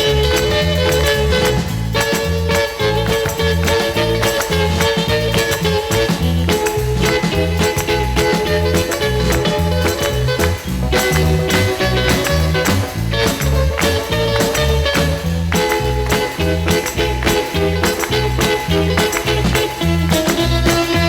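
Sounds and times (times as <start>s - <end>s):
upbeat swing or ska music: 0.0s - 21.0s.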